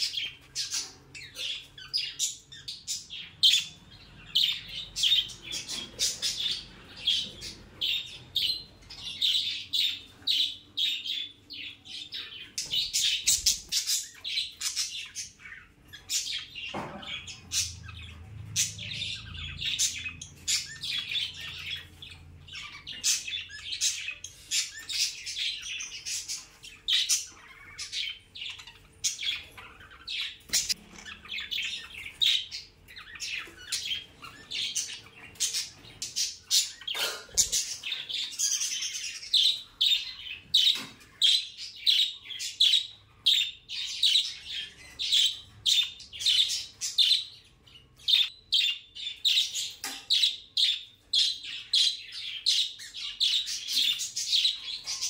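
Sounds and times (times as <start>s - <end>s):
budgerigars chirping: 0.0s - 55.0s.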